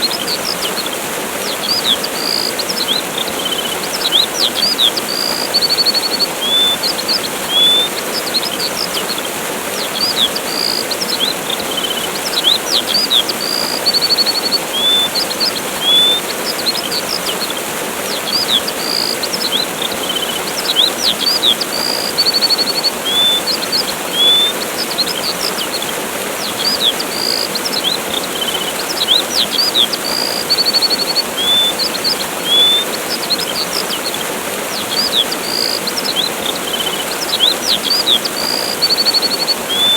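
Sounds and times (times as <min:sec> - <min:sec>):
small birds chirping: 0:00.0 - 0:39.9
waterfall rushing: 0:00.0 - 0:39.9.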